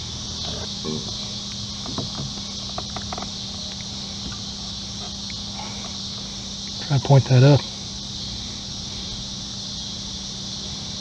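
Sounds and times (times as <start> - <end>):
insects buzzing: 0.0 - 11.0
low steady hum: 0.0 - 11.0.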